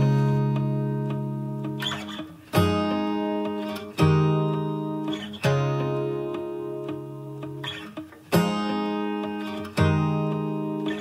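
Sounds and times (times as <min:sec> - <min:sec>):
acoustic guitar strummed chords: 0:00.0 - 0:11.0.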